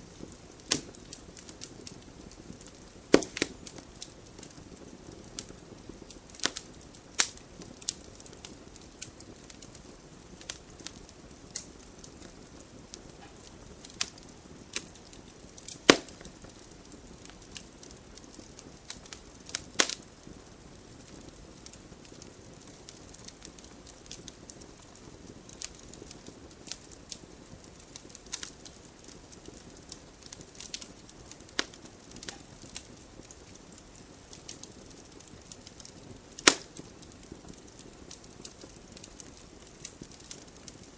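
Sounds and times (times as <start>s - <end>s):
fire crackling and popping: 0.0s - 40.9s
soft rustle of flames: 0.0s - 40.9s.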